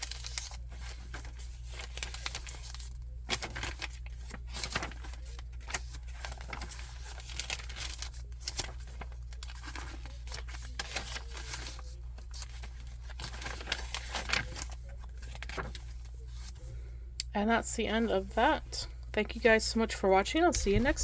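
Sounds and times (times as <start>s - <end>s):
paper pages rustling: 0.0s - 16.8s, 20.5s - 21.0s.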